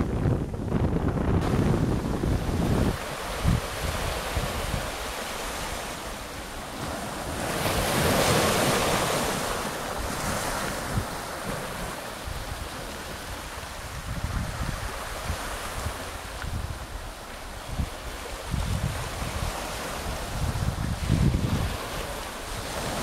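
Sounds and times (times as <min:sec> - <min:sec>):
wind buffeting microphone: 0:00.0 - 0:23.0
waves washing over pebbles: 0:01.4 - 0:23.0.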